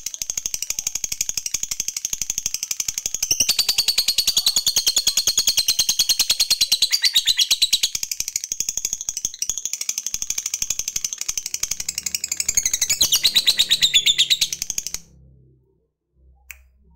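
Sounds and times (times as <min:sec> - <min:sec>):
lovebird chattering trill: 0:00.0 - 0:15.1.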